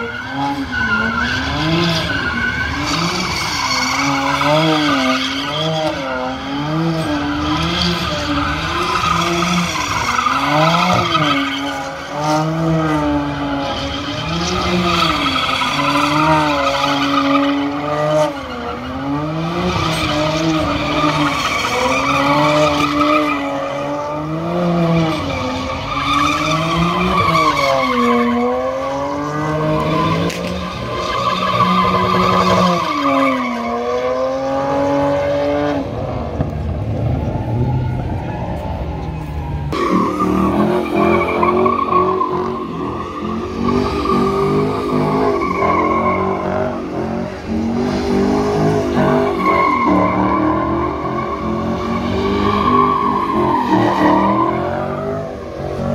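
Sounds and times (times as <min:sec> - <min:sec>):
car engine revving: 0:00.0 - 0:55.9
tyres squealing on asphalt: 0:00.0 - 0:55.9.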